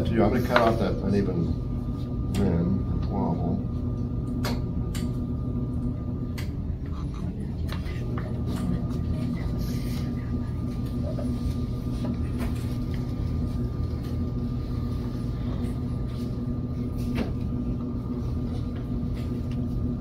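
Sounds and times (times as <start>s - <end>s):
potter's wheel motor hum: 0.0s - 20.0s.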